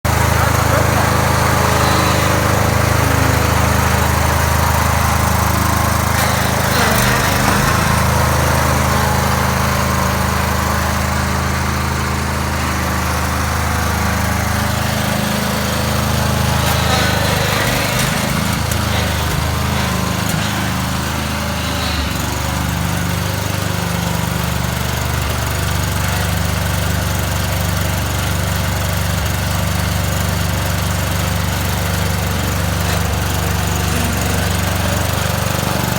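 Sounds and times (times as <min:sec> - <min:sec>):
lawn tractor engine running: 0:00.0 - 0:35.9.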